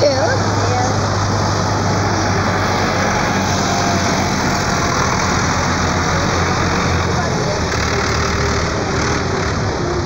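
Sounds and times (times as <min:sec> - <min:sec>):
tractor engines droning: 0:00.0 - 0:10.0.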